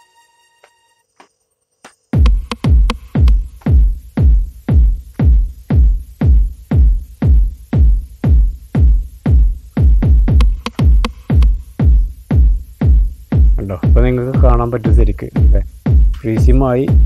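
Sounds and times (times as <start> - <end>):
electronic music with kick drum: 1.9 - 17.0.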